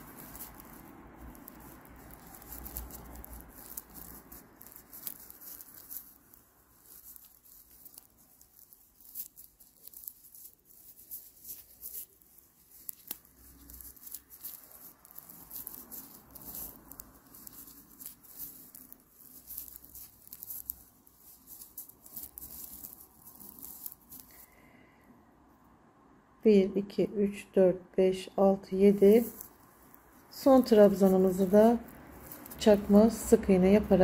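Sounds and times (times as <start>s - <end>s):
yarn scratching against crochet hook: 0.0s - 24.5s, 28.5s - 34.0s.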